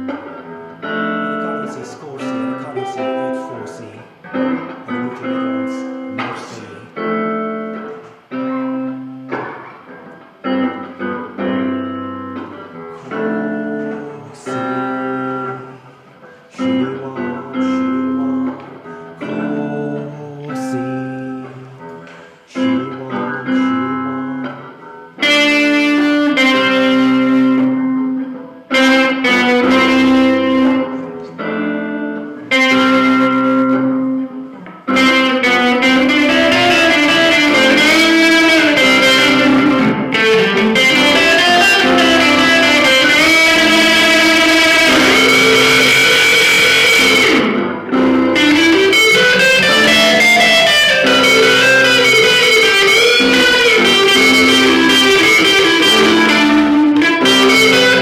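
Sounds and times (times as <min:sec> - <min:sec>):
electric guitar chords: 0:00.0 - 0:58.0
electric guitar lead line: 0:00.0 - 0:58.0.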